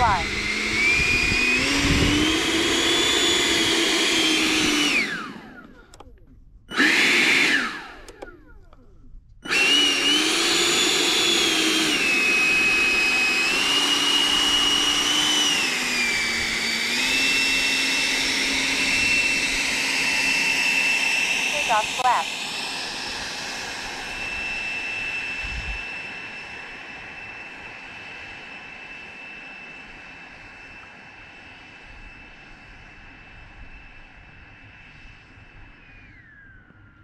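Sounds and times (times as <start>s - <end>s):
electric ducted fan whining: 0.0s - 31.0s.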